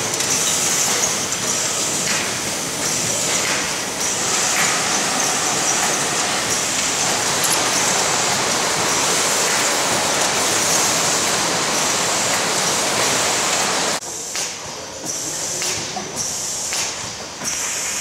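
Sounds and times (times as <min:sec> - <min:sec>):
belt conveyor running: 0:00.0 - 0:18.0
machinery hissing: 0:00.0 - 0:18.0.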